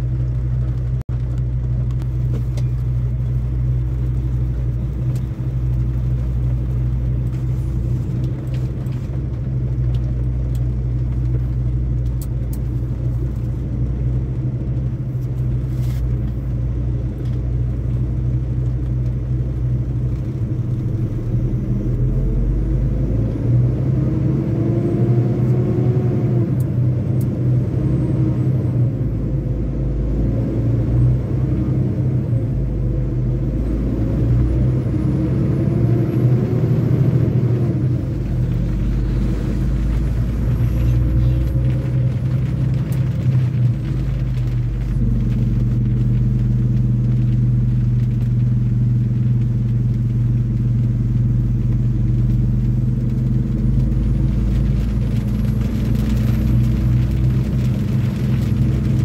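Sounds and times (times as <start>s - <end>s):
road rumble: 0.0s - 59.0s
truck engine drone: 0.0s - 59.0s.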